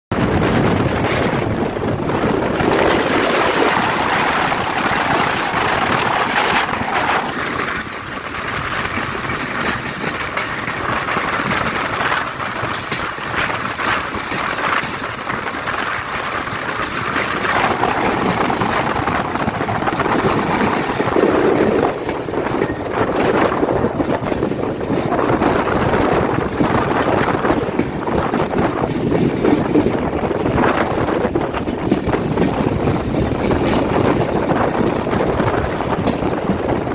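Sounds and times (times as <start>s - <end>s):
moving train running noise: 0.1s - 36.9s
wind rushing over microphone: 0.1s - 36.9s.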